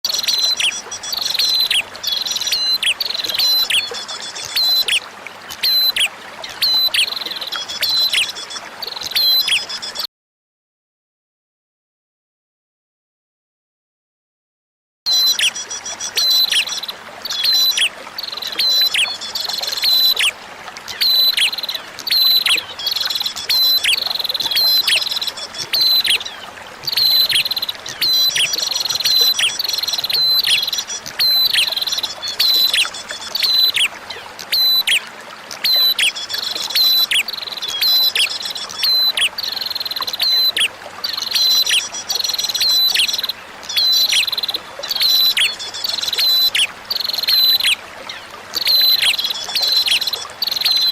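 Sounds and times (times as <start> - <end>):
flowing water hiss: 0.1 - 9.9, 15.3 - 50.9.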